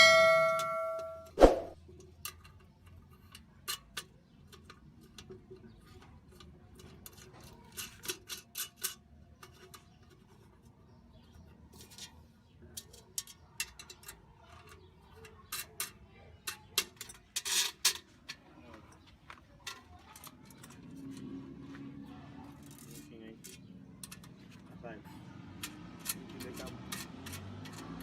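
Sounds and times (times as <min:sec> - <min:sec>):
metal parts clicking and scraping: 0:00.0 - 0:21.5, 0:22.4 - 0:28.0.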